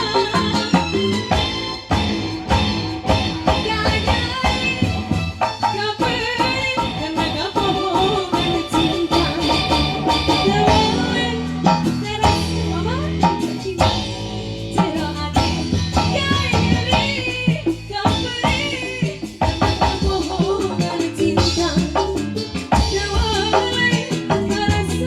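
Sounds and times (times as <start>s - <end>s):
live band music: 0.0s - 25.0s
sustained bass notes: 0.0s - 25.0s.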